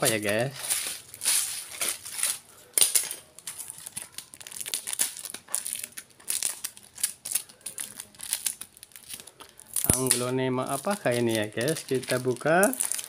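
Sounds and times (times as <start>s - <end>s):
paper and tape crinkling and tearing: 0.0s - 13.0s.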